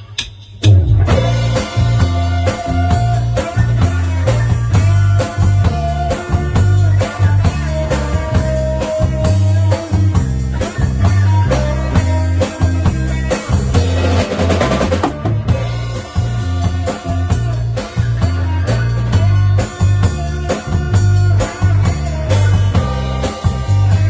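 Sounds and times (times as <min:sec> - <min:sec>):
bass guitar: 0:00.0 - 0:24.0
drum kit: 0:00.0 - 0:24.0
electric guitar: 0:00.6 - 0:24.0.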